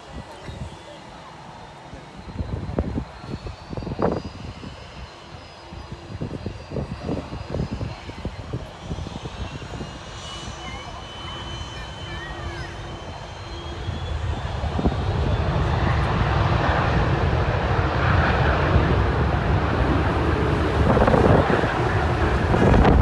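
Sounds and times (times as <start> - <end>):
jet engine rumble: 0.0 - 23.0.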